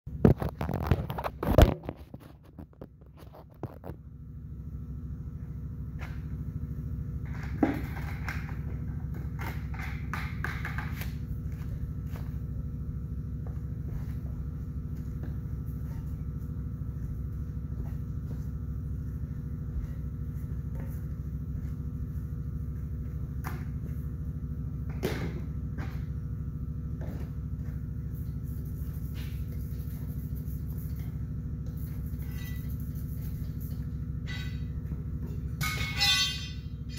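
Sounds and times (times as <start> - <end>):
low machine hum: 0.1 - 36.9.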